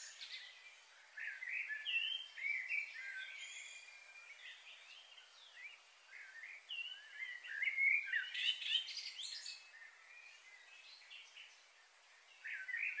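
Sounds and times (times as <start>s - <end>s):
songbirds chirping and warbling: 0.0s - 13.0s.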